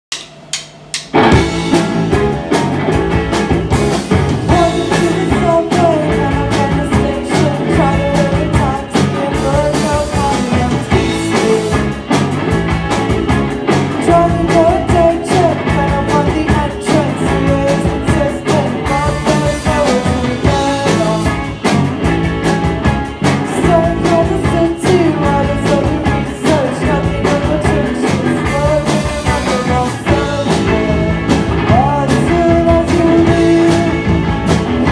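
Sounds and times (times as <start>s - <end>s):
live rock band playing: 0.1s - 34.9s.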